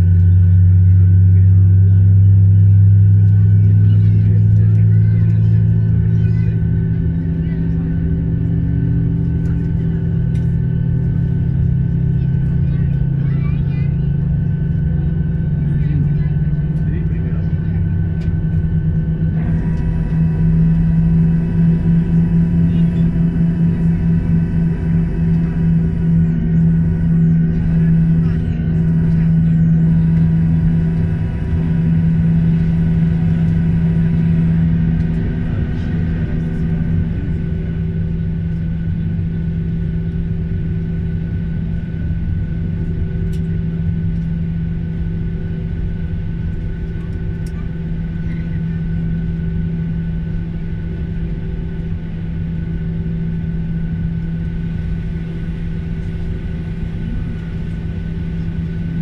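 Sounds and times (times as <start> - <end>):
jet engines idling in cabin: 0.0 - 59.0.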